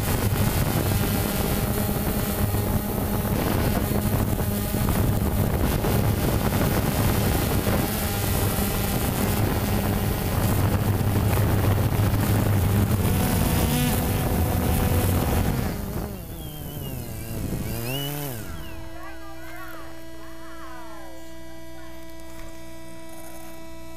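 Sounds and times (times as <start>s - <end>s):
drone propellers humming: 0.0s - 23.9s.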